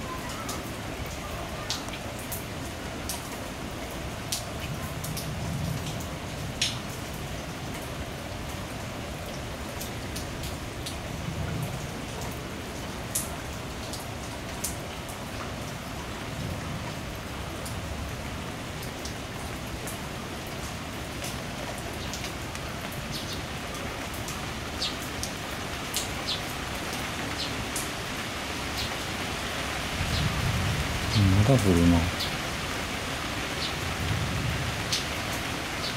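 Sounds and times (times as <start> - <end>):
sharp raindrops striking nearby: 0.0 - 35.9
thunderstorm rain: 2.0 - 35.9.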